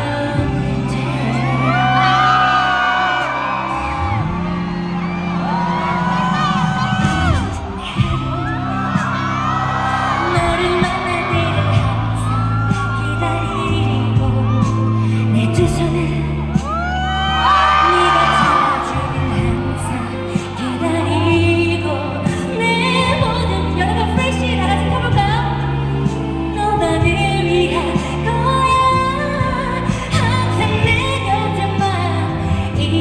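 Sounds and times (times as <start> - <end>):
live pop song with female vocal: 0.0 - 4.5, 5.7 - 33.0
audience whooping and cheering: 0.0 - 32.9.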